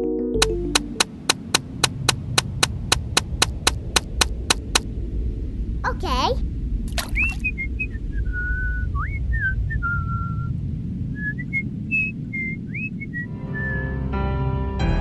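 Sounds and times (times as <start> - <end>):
low rumble: 0.4 - 15.0.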